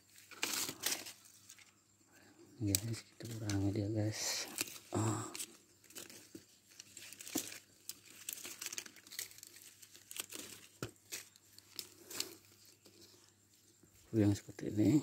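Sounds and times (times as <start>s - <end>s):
leaves rustling and crackling: 0.0s - 1.8s, 2.6s - 15.0s.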